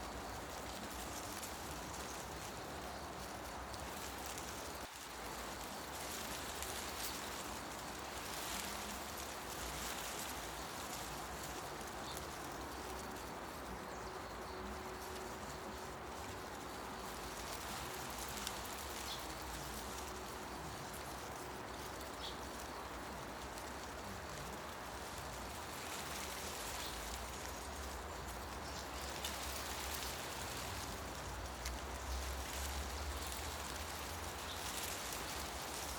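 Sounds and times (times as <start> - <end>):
wind rustling tree leaves: 0.0 - 35.9.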